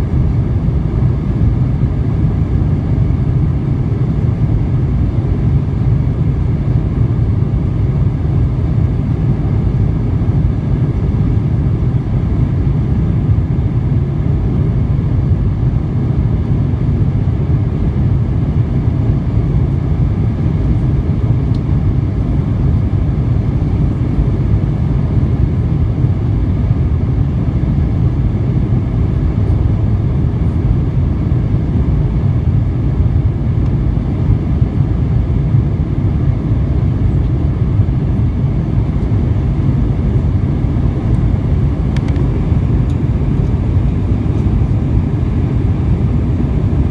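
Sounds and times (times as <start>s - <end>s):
jet cabin engine rumble: 0.0s - 46.9s.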